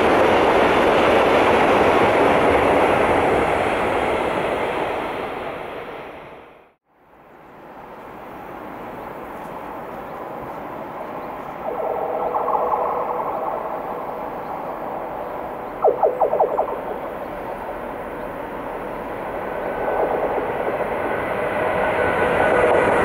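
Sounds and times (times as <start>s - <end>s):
freight train rumble: 0.0s - 6.7s, 7.7s - 23.0s.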